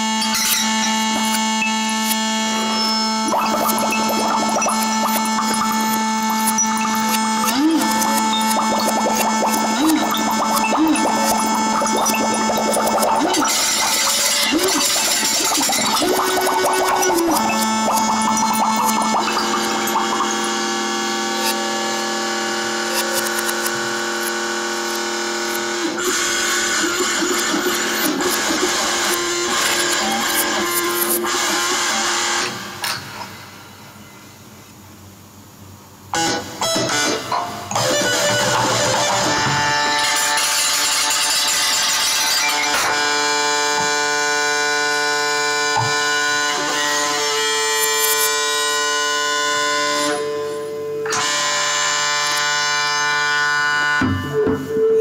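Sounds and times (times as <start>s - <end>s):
electronic drone: 0.0s - 34.3s, 36.1s - 55.0s.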